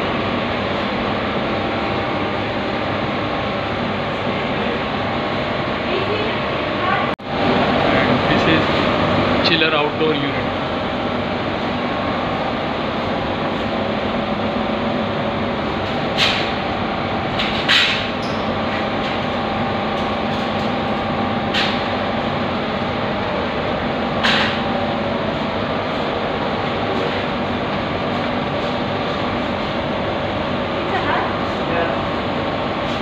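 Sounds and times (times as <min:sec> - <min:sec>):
refrigeration unit humming: 0:00.0 - 0:33.0.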